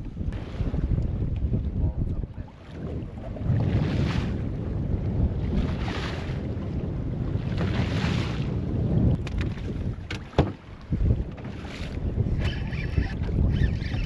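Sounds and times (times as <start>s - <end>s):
water washing against hull: 0.0s - 14.0s
wind buffeting microphone: 0.0s - 14.0s.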